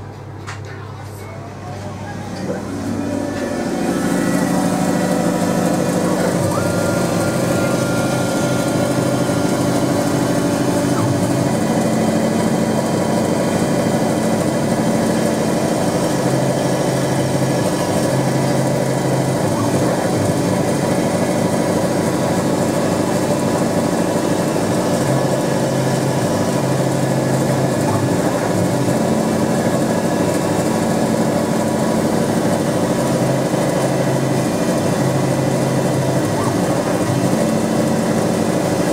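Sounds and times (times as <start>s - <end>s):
milling machine cutting brass: 2.3s - 38.9s.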